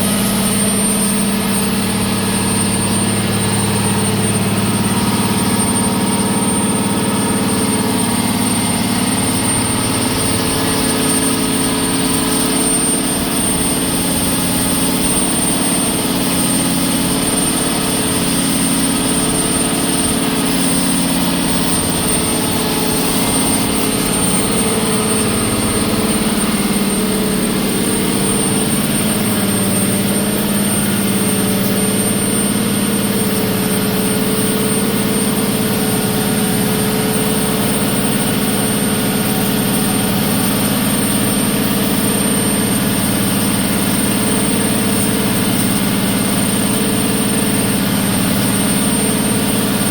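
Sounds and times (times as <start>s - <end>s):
high-pitched whine: 0.0s - 49.9s
marine diesel engine running: 0.0s - 49.9s.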